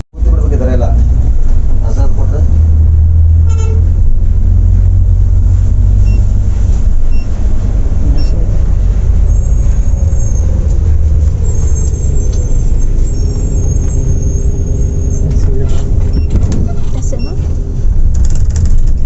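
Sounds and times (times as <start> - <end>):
coach engine and road rumble: 0.0 - 19.0.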